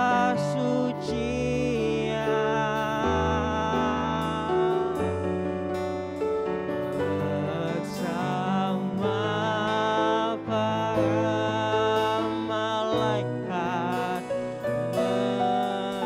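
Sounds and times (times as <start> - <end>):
worship band music: 0.0 - 16.0.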